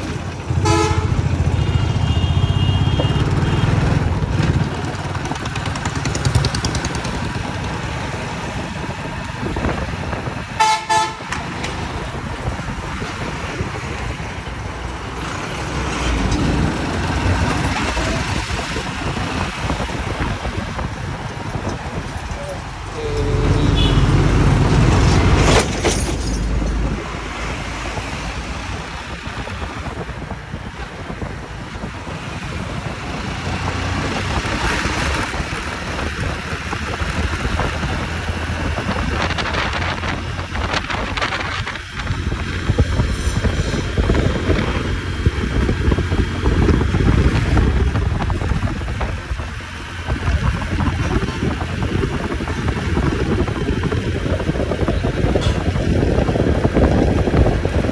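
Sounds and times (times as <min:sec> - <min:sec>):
motorcycle engine and road rumble: 0:00.0 - 0:57.9
wind buffeting microphone: 0:02.7 - 0:25.8, 0:26.4 - 0:57.9.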